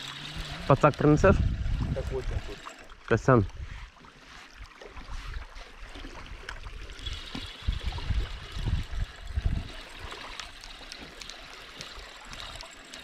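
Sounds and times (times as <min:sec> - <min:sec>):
river water trickling: 0:00.0 - 0:13.0.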